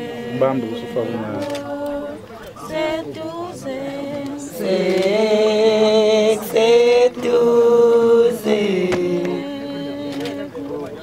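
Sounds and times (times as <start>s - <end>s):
voices chanting held notes: 0.0s - 11.0s.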